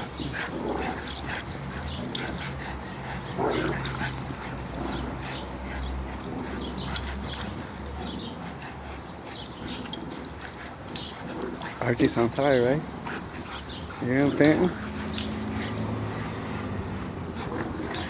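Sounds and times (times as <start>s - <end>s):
dogs whining: 0.0s - 16.0s, 17.2s - 18.0s
dogs panting: 0.0s - 18.0s.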